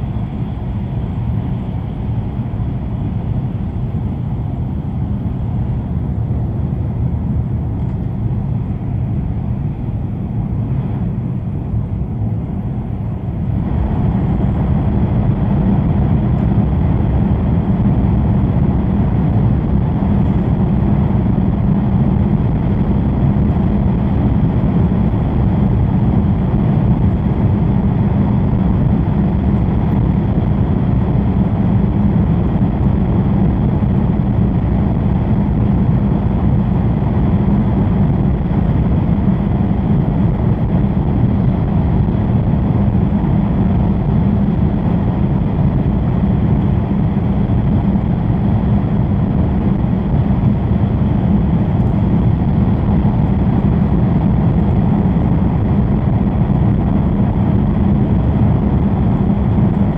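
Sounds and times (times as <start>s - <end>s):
train rumble in tunnel: 0.0s - 59.9s.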